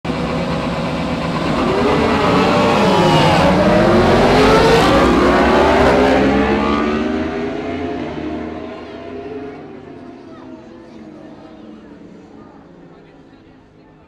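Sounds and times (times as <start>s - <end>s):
motorbike engines revving: 0.1s - 14.0s.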